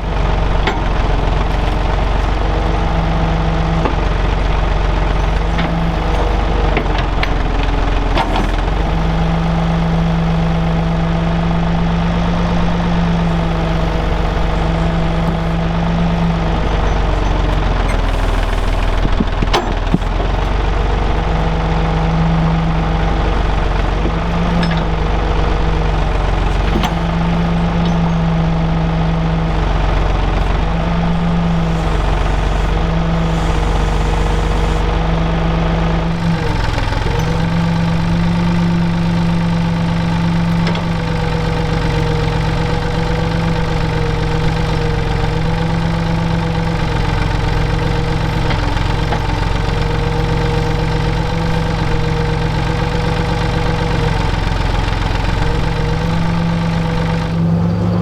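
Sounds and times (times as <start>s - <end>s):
digger engine under load: 0.0s - 58.0s.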